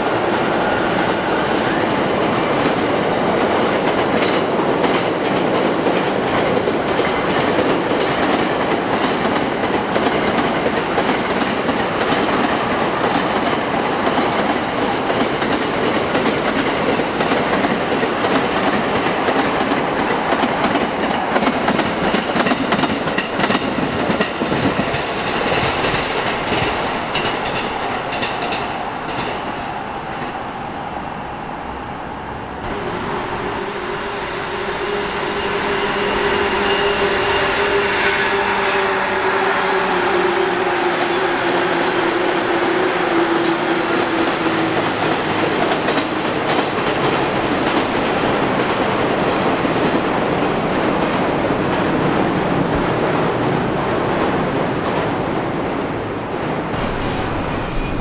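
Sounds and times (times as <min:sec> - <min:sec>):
steady train hum: 0:00.0 - 0:58.0.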